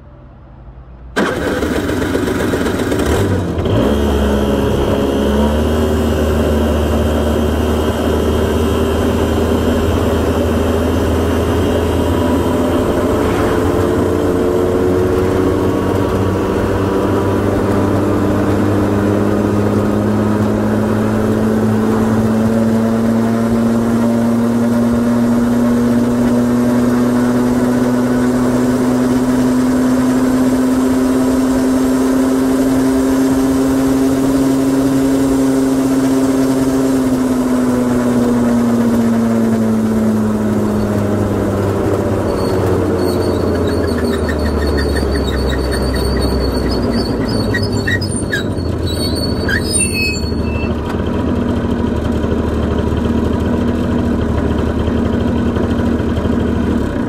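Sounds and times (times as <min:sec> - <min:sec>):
two-stroke engine starting and idling: 0:01.0 - 0:57.0.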